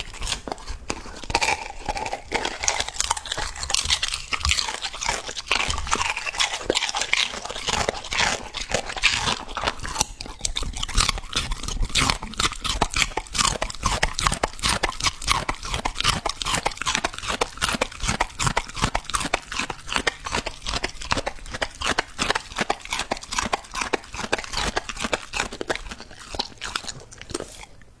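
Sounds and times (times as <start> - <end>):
dog chewing wet food: 0.0 - 28.0.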